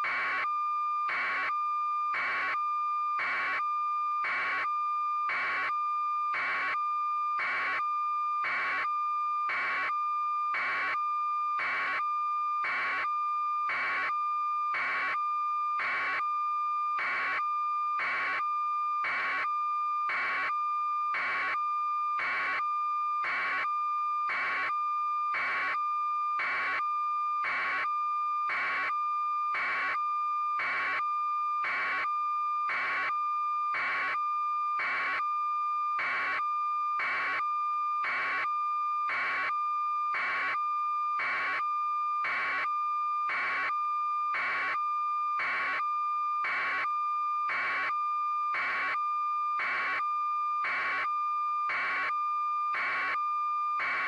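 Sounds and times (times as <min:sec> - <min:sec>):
continuous steady tone: 0:00.0 - 0:54.0.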